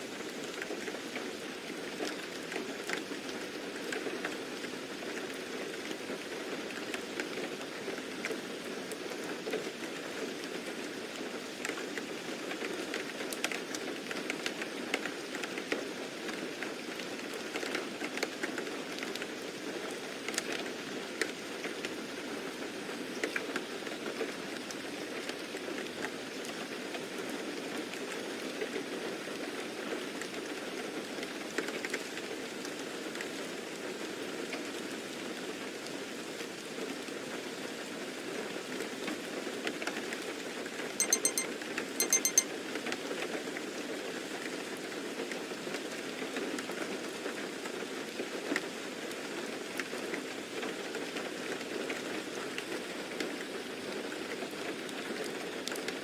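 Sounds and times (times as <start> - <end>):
steady rain falling: 0.0 - 40.8, 44.4 - 56.0.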